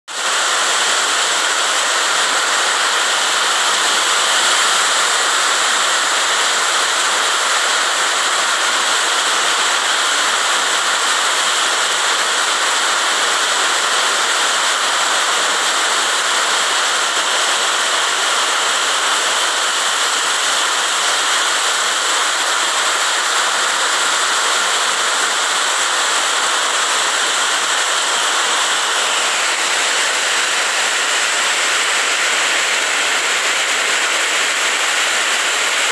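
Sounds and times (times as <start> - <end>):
heavy rain on paving: 0.1 - 35.9.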